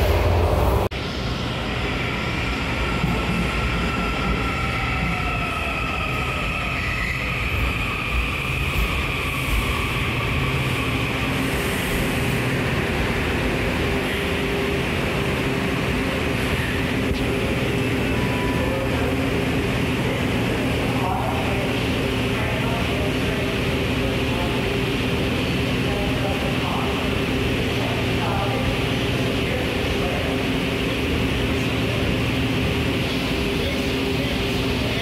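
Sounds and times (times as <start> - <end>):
subway train rumble and hiss: 0.0 - 35.0.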